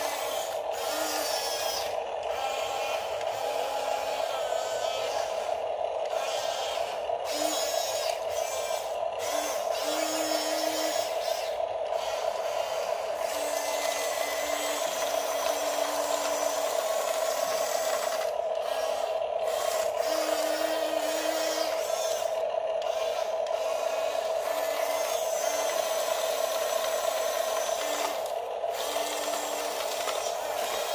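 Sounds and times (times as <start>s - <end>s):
electric gear motors whining: 0.0s - 30.9s
low motor hum: 0.0s - 30.9s.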